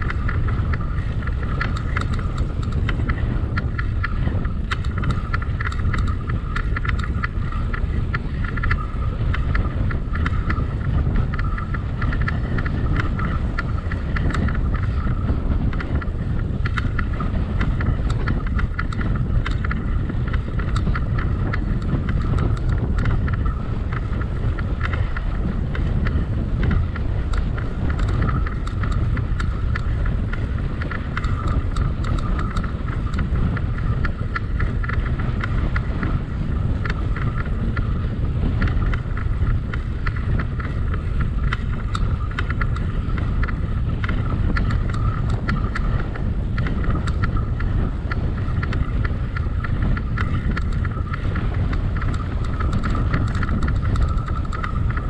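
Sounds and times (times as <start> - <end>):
bicycle rolling noise: 0.0 - 55.0
light clicks and rattles: 0.0 - 55.0
wind rushing over microphone: 0.0 - 55.0.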